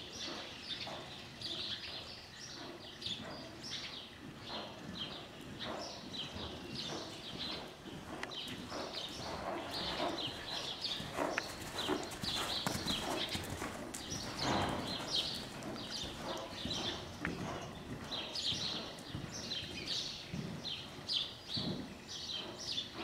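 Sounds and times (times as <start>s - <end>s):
horse hoofbeats on sand: 0.0s - 23.0s.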